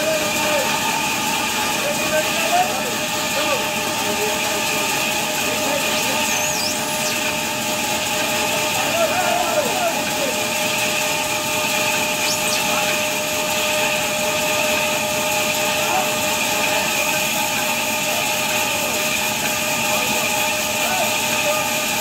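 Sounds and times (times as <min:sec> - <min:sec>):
band saw cutting a log: 0:00.0 - 0:20.7.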